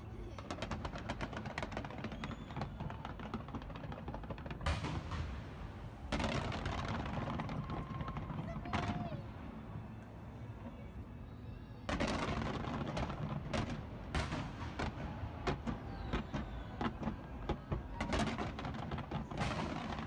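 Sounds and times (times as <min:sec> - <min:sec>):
fireworks banging and crackling: 0:00.0 - 0:09.3, 0:11.9 - 0:20.0.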